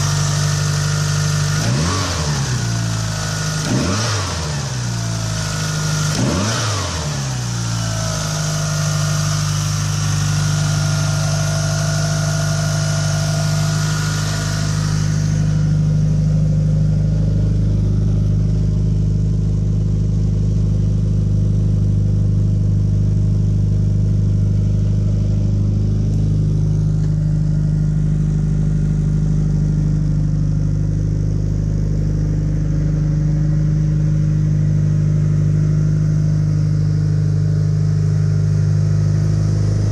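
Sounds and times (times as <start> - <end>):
engine revving: 0.0 - 18.5, 24.6 - 39.9
car engine idling: 0.0 - 39.9.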